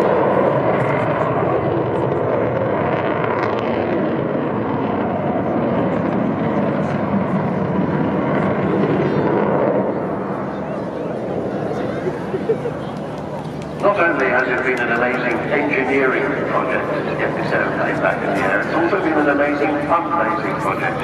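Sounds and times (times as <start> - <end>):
jet engines roaring overhead: 0.0 - 21.0.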